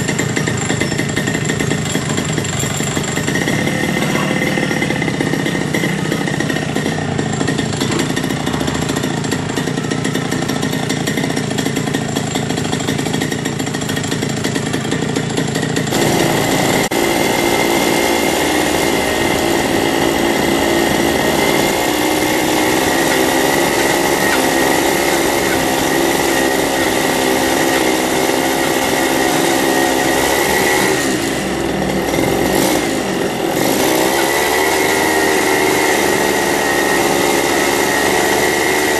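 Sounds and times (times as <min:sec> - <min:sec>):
small motorbike engine running: 0:00.0 - 0:38.9.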